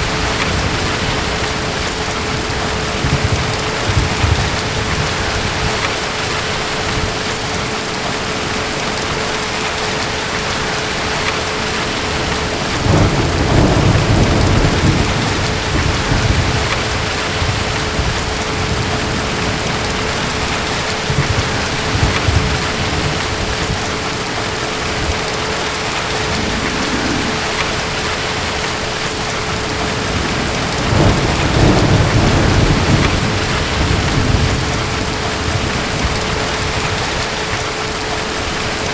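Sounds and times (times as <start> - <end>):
low thunder rumbling: 0.0 - 38.3
heavy rain: 0.0 - 38.9.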